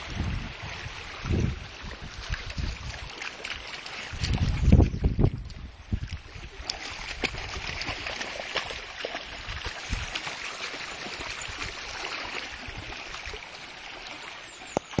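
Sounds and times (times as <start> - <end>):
shallow stream running: 0.0 - 15.0.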